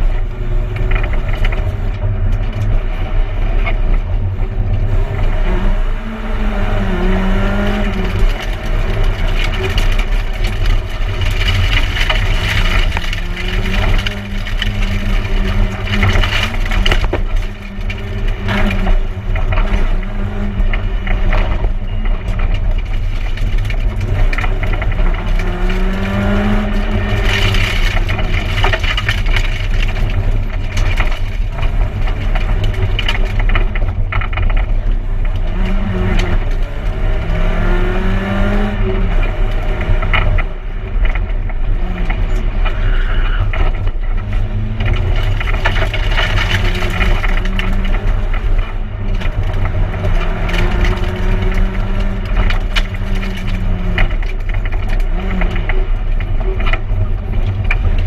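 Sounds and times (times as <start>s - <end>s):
car engine revving in cabin: 0.0s - 58.0s
loud road noise: 0.0s - 58.0s.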